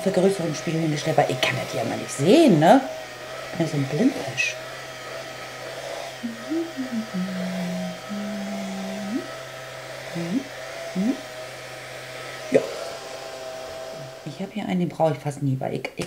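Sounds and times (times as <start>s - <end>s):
rotating makeup brush whirring: 0.0s - 15.5s.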